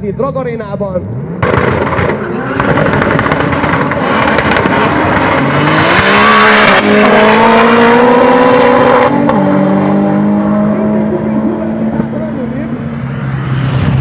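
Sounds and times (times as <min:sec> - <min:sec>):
drag cars accelerating: 0:00.7 - 0:14.0.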